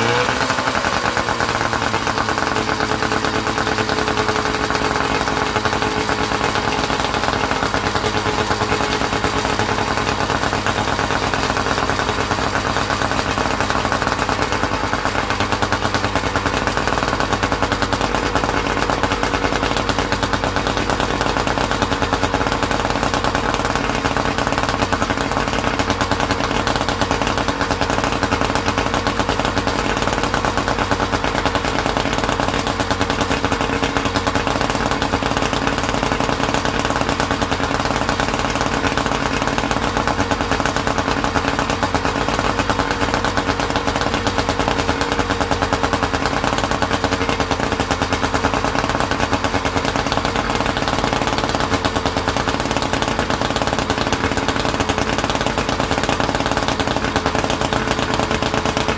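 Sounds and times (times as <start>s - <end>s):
boat motor running: 0.0s - 58.9s.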